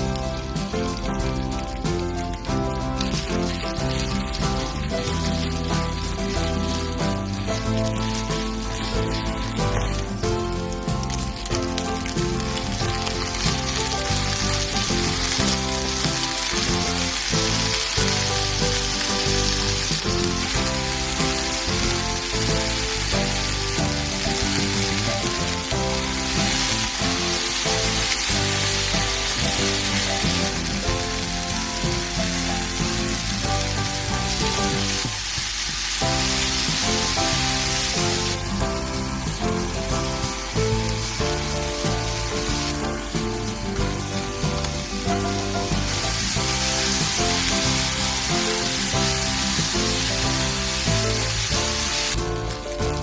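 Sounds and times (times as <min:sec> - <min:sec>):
background music: 0:00.0 - 0:53.0
food sizzling in a frying pan: 0:00.0 - 0:53.0.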